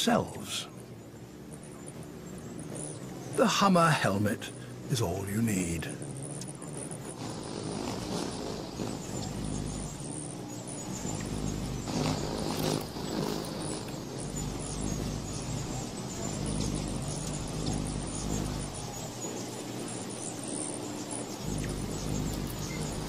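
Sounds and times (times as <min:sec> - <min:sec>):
hummingbird wings humming: 0:00.0 - 0:23.0.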